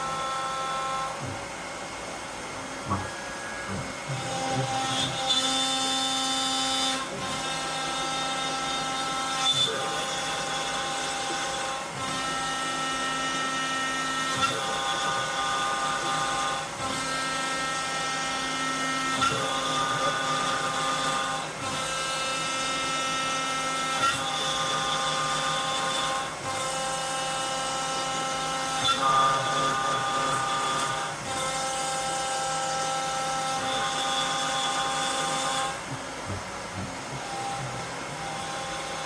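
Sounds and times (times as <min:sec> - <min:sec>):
cnc router whine: 0:00.0 - 0:39.0.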